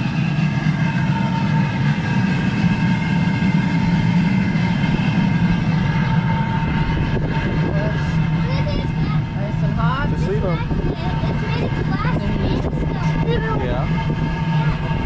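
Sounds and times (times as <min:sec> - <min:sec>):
furnace burner and blower drone: 0:00.0 - 0:15.0.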